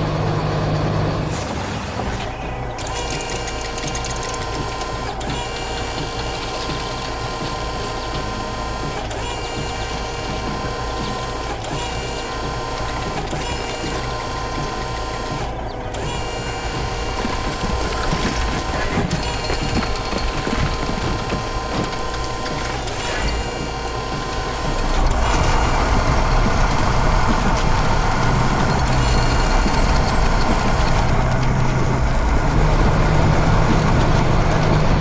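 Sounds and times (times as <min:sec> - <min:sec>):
construction machine whirring and clattering: 0:00.0 - 0:35.0.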